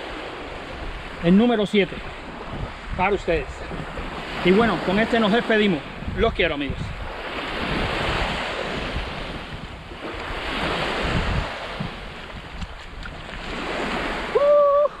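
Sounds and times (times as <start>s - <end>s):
surf washing onto sandy beach: 0.0s - 15.0s
wind buffeting microphone: 0.0s - 15.0s.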